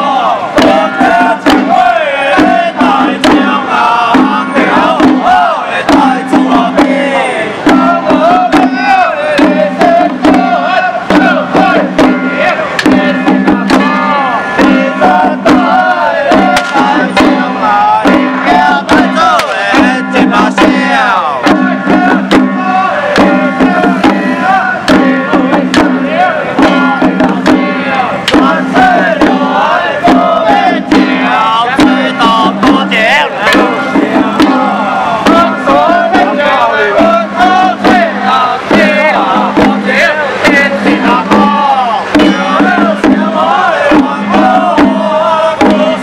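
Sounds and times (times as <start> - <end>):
group shouting and chanting: 0.0 - 46.0
handheld drums beating: 0.0 - 46.0.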